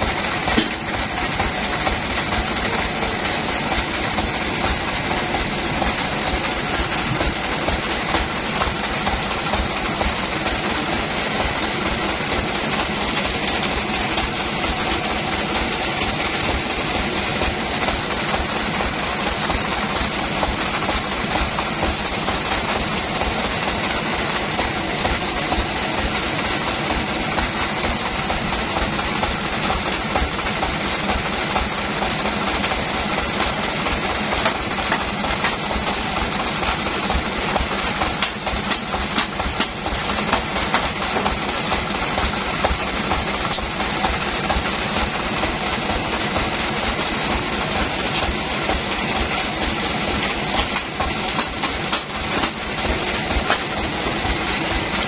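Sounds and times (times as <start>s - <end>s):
band saw running: 0.0s - 55.0s.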